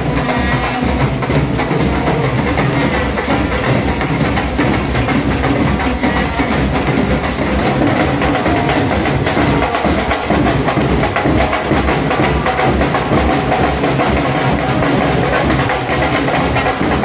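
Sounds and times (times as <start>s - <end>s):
brass band playing: 0.0s - 17.0s
driving drum beat: 0.0s - 17.0s.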